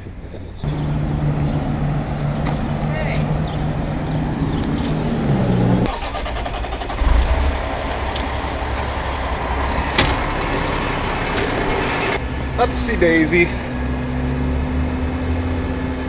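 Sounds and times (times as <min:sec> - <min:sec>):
truck engine starting and idling: 0:00.7 - 0:13.9.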